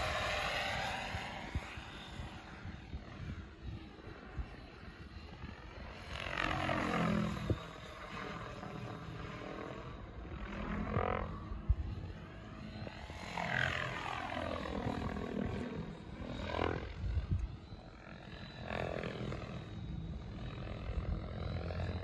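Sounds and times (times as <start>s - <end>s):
rc helicopter rotor and motor: 0.0s - 22.0s.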